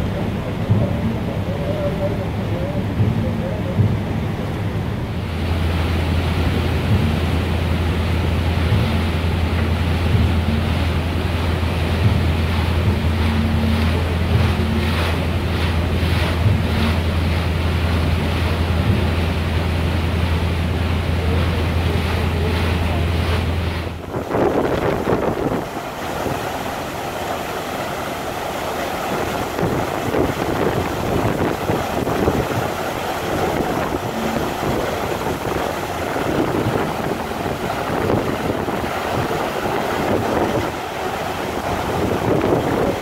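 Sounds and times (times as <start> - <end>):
ship engine hum: 0.0 - 43.0
water rushing past ship: 0.0 - 43.0
wind buffeting microphone: 0.0 - 43.0.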